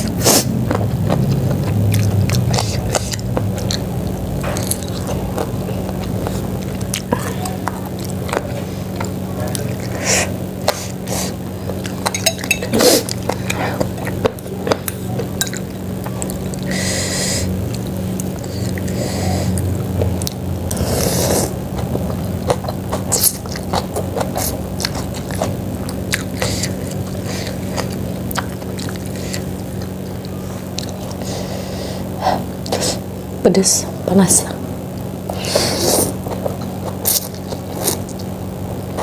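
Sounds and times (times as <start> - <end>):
person chewing: 0.0 - 33.2, 35.0 - 39.0
noisy eating bursts: 0.0 - 39.0
steady low hum: 0.0 - 39.0.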